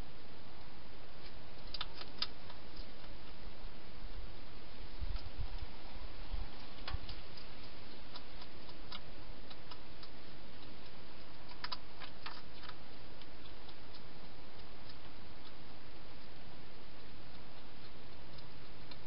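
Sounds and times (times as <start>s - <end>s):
steady hiss: 0.0s - 19.0s
hedgehog crunching food: 1.2s - 19.0s.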